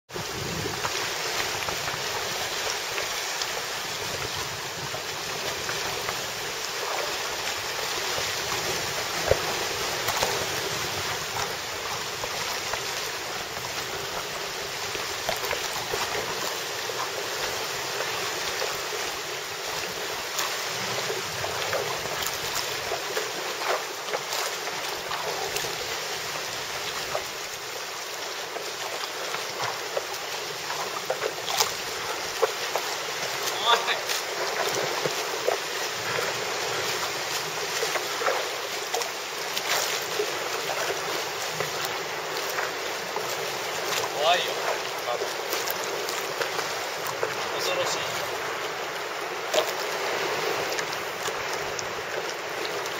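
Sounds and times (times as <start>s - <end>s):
water lapping against rocks: 0.1s - 52.9s
small splashes and drips: 0.7s - 52.9s.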